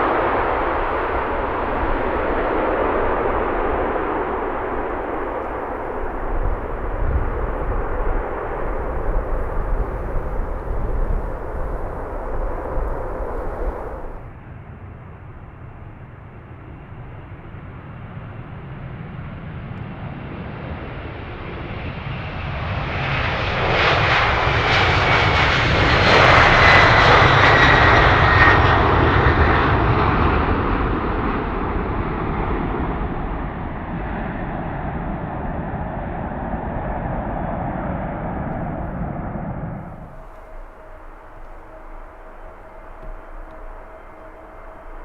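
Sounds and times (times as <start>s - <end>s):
jet airliner passing: 0.0s - 14.8s, 18.1s - 45.0s.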